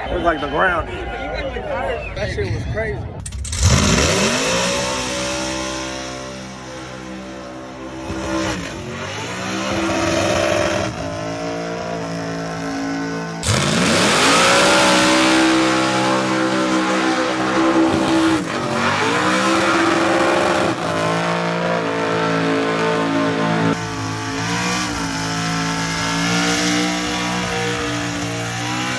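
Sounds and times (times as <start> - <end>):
car engine revving hard: 3.5 - 28.9.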